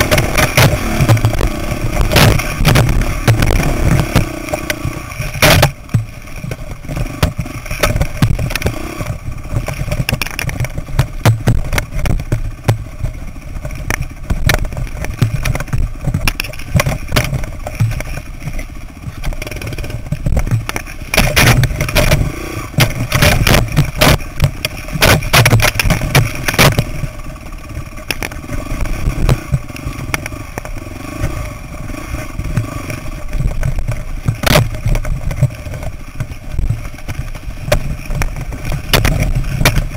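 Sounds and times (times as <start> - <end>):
bike clattering over rough trail: 0.0 - 39.9
dirt bike engine revving: 0.0 - 39.9.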